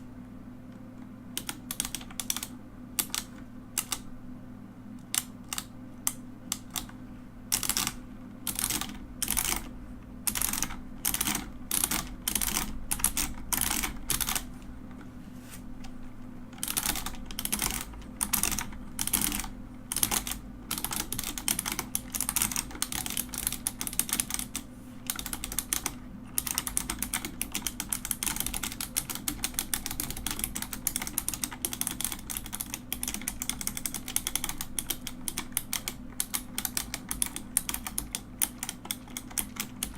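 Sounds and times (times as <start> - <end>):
mechanical keyboard typing: 1.4 - 4.0, 5.0 - 14.6, 16.6 - 39.9.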